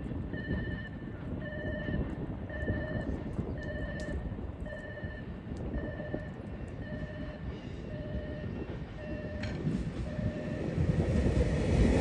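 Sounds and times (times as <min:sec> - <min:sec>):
low rumbling background: 0:00.0 - 0:12.0
railway warning alarm dinging: 0:00.1 - 0:10.9.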